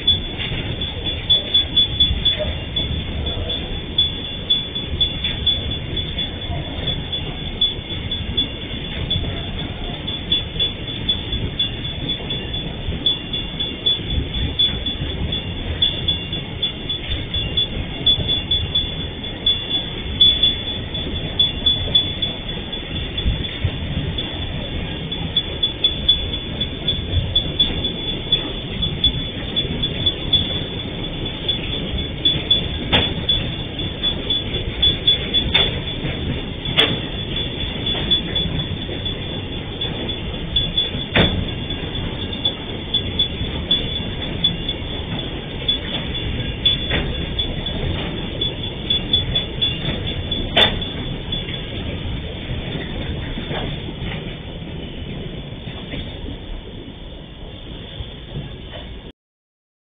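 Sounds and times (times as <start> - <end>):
freight train rumbling past: 0.0 - 59.1.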